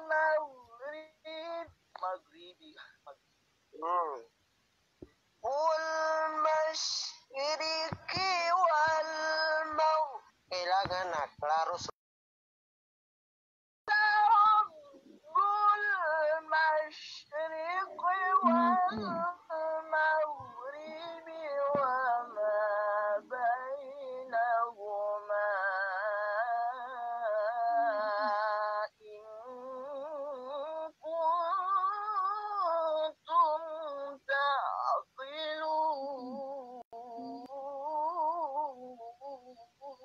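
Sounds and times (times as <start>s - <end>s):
melodic religious recitation: 0.0s - 3.2s, 5.4s - 11.8s, 13.9s - 40.0s.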